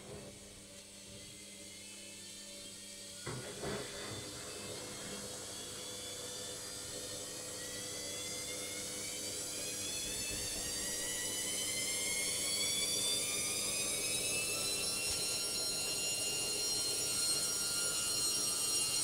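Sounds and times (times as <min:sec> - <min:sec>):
washing machine spinning up: 0:00.0 - 0:19.0.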